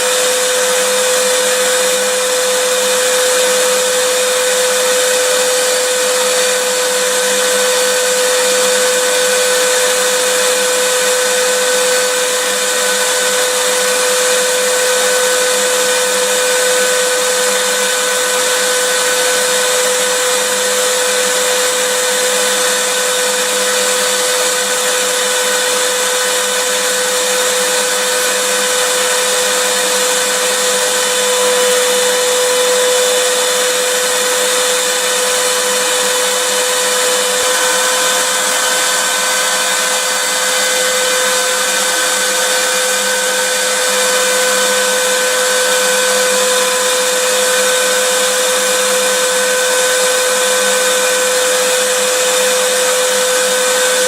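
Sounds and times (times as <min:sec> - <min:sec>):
vacuum cleaner motor running: 0:00.0 - 0:54.0.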